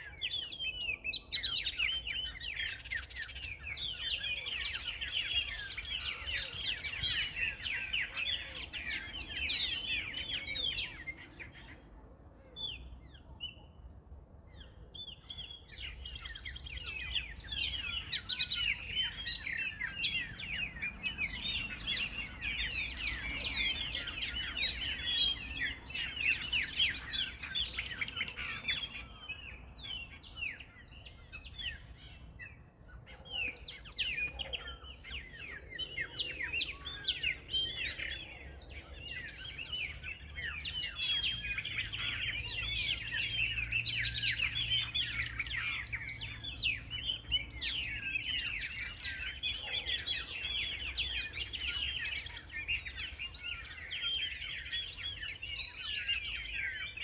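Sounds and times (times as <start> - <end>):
small birds chirping chorus: 0.0 - 57.0.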